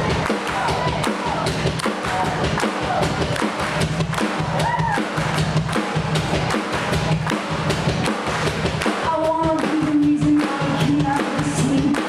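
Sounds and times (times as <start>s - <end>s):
drum kit beat: 0.0s - 12.0s.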